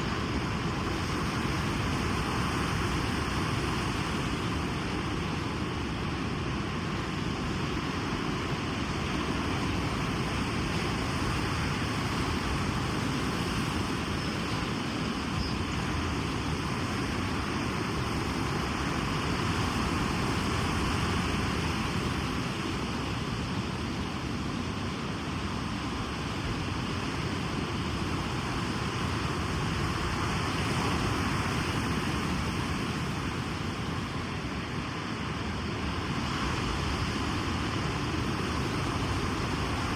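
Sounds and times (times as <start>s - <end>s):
waves washing on a beach: 0.0s - 39.9s.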